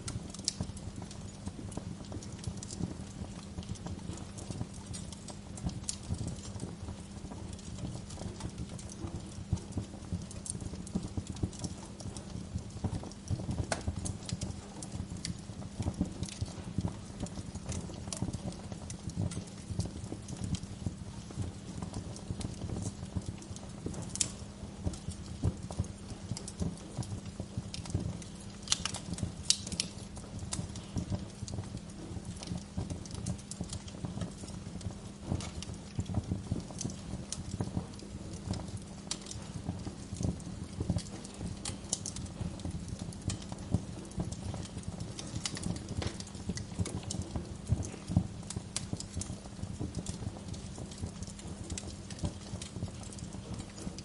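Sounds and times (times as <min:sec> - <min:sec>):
fire pops: 0:00.0 - 0:54.0
wood fire crackling: 0:00.0 - 0:54.0.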